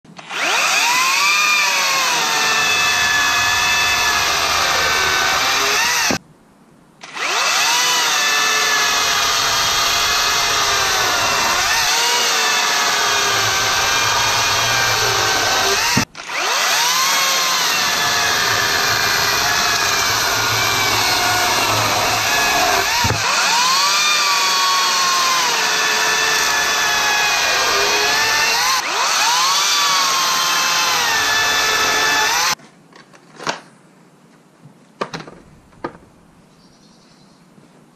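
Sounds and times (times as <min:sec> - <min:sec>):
chainsaw cutting wood: 0:00.2 - 0:06.2, 0:07.0 - 0:32.6.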